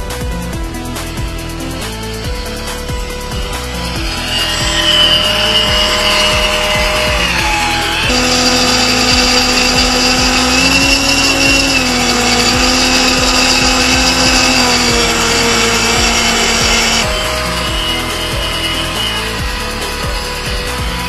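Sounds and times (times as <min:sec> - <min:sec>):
hovercraft fan whining: 0:00.3 - 0:21.0.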